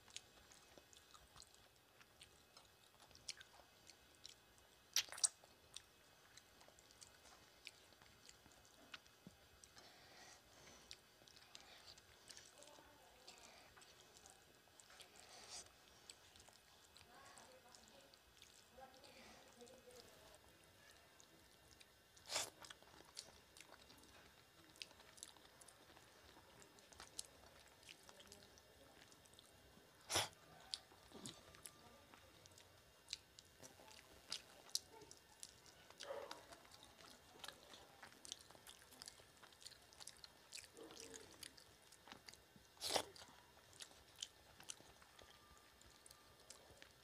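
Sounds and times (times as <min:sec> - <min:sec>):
wet chewing with mouth clicks: 0:00.0 - 0:47.0.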